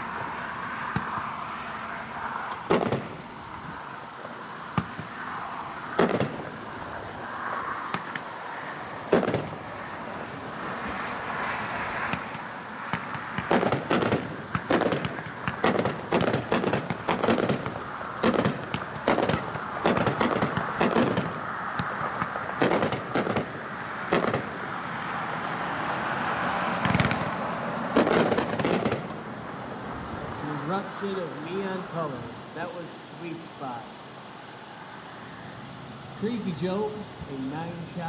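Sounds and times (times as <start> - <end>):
distant fireworks bangs: 0.0 - 34.8, 35.4 - 38.0
fireworks hiss: 0.0 - 38.0.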